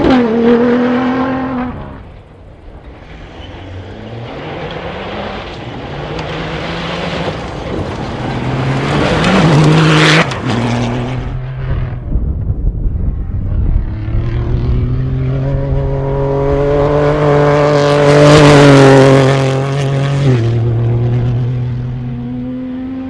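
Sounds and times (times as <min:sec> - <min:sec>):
vehicle engine passing at speed: 0:00.0 - 0:02.3, 0:03.0 - 0:23.0.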